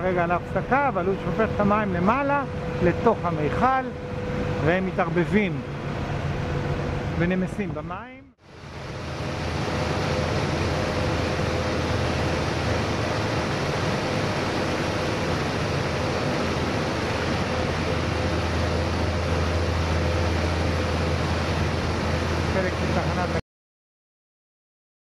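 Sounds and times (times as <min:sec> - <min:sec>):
faint steady whine: 0:00.0 - 0:23.4
machinery drone and hum: 0:00.0 - 0:23.4.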